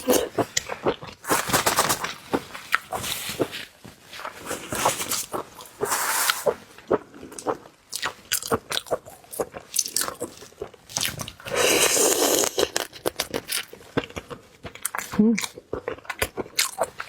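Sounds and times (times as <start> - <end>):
crunchy chewing of seafood: 0.0 - 17.0.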